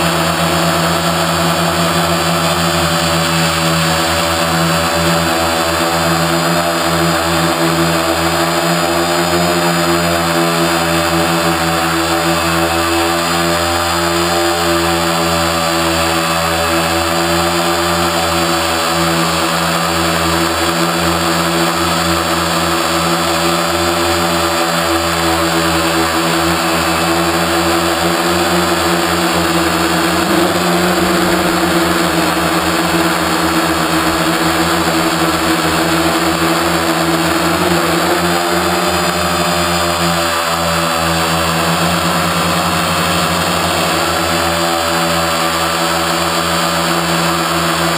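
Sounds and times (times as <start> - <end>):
drone propellers whining: 0.0 - 47.9.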